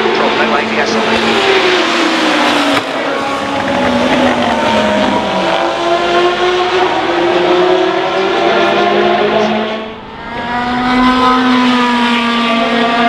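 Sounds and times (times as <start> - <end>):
race car engine passing by: 0.0 - 13.0.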